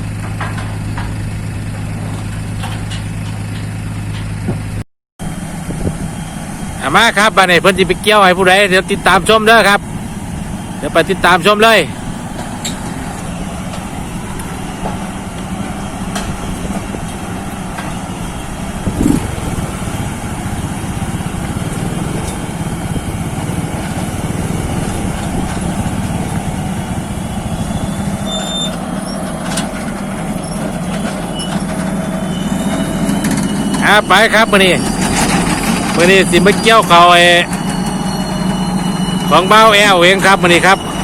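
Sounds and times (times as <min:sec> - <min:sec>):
heavy vehicle engine running: 0:00.0 - 0:41.0.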